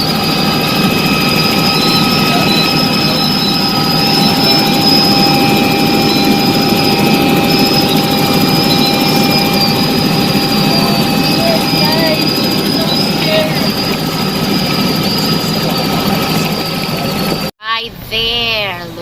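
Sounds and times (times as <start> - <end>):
helicopter engine and rotor rumble: 0.0 - 17.5
steady whining tones: 0.0 - 19.0.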